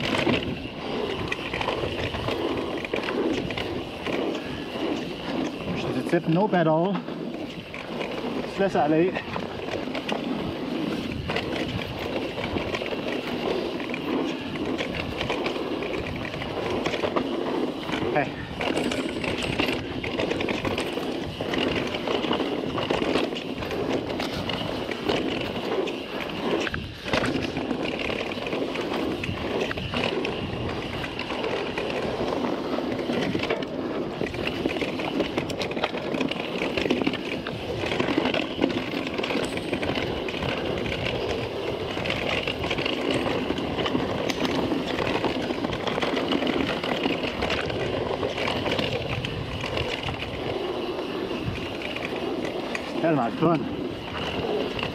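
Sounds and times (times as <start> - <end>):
bike clattering and rattling: 0.0 - 54.9
bike tyres rolling over dirt: 0.0 - 54.9.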